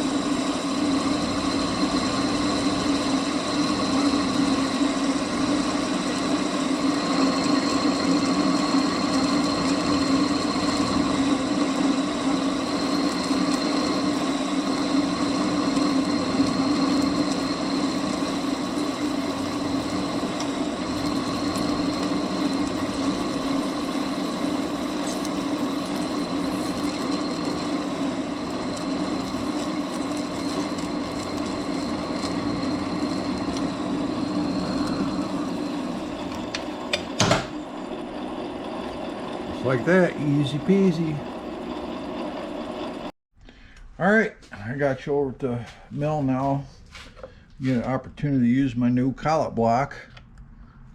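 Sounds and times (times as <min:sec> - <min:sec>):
metal lathe humming and whining: 0:00.0 - 0:43.1.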